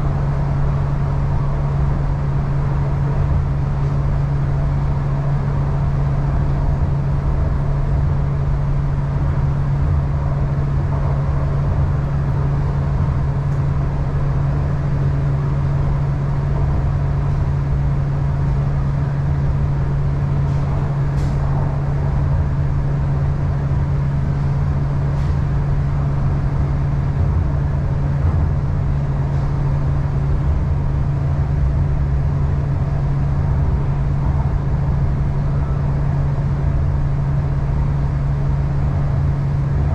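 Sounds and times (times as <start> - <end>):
train cabin low hum: 0.0 - 39.9
wheels rumbling on track: 0.0 - 39.9.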